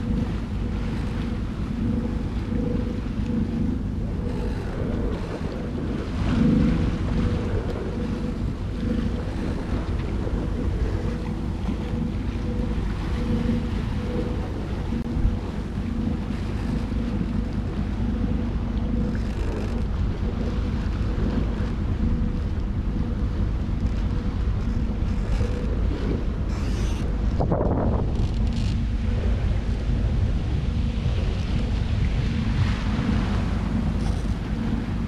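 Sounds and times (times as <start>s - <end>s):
diesel engine droning: 0.0s - 35.0s
water washing past hull: 0.0s - 35.0s
wind noise on microphone: 0.0s - 35.0s.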